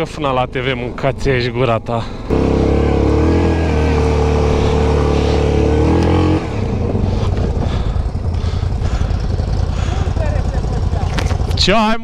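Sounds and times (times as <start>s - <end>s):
atv engine running: 2.2s - 12.0s.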